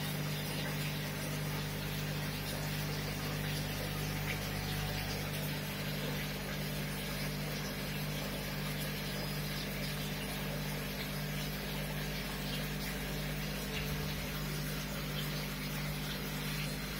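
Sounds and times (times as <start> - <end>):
aquarium pump humming: 0.0 - 16.9.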